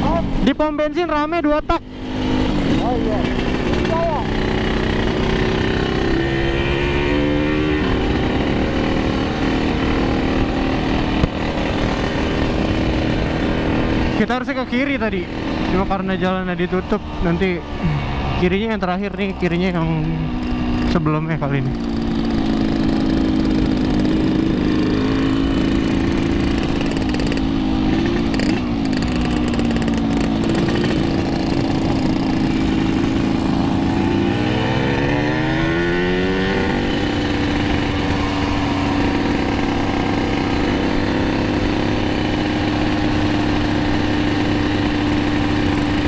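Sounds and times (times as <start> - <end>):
two-stroke motorcycle engines: 0.0 - 46.0.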